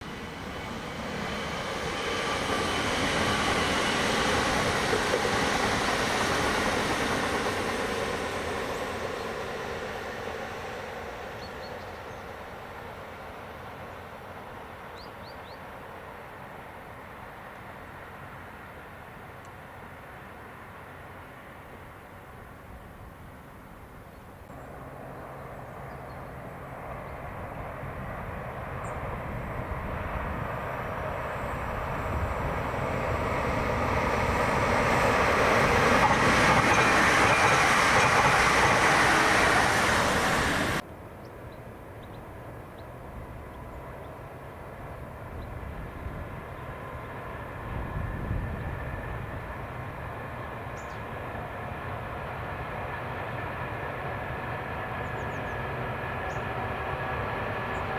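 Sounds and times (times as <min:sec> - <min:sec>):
train rumbling by: 0:00.0 - 0:23.5, 0:24.4 - 0:57.9
train passing close by: 0:00.0 - 0:57.9.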